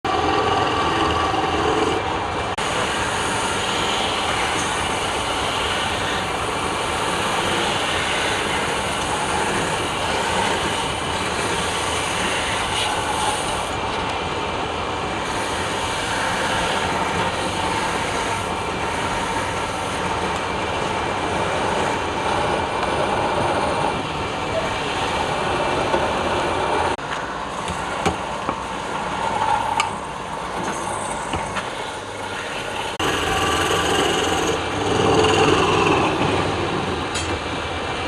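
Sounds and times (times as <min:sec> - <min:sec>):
woodworking power tool whirring: 0:00.1 - 0:14.2, 0:15.2 - 0:37.2.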